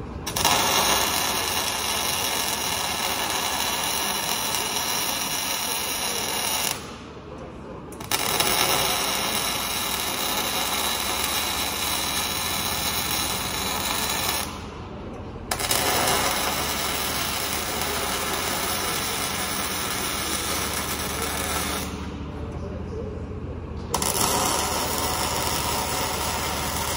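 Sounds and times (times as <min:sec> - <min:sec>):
welding arc crackling: 0:00.2 - 0:07.0, 0:08.0 - 0:14.8, 0:15.5 - 0:22.2, 0:23.9 - 0:26.9.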